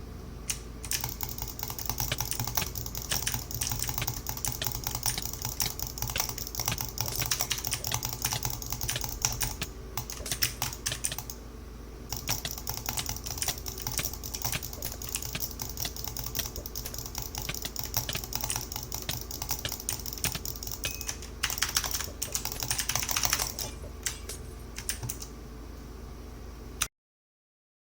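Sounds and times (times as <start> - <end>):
steady low hum: 0.0 - 26.9
keyboard typing clicks: 0.5 - 11.4, 12.1 - 25.3.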